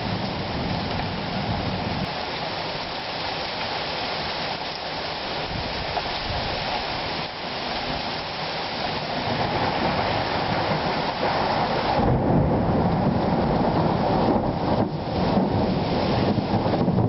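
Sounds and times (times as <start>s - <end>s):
thunder rumbling: 0.0s - 2.8s, 5.4s - 17.0s
heavy rain falling: 0.0s - 17.0s.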